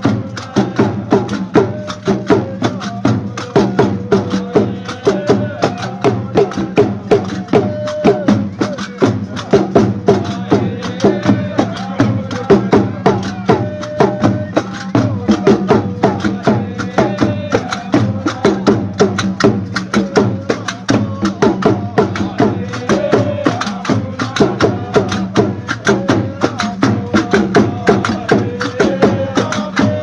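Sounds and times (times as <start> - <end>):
men singing: 0.0 - 30.0.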